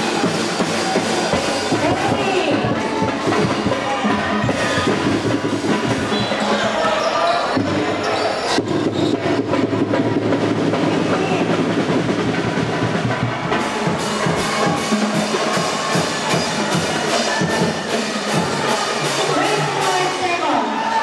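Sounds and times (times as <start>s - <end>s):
continuous din: 0.0s - 21.0s
drumming steady beat: 0.0s - 21.0s.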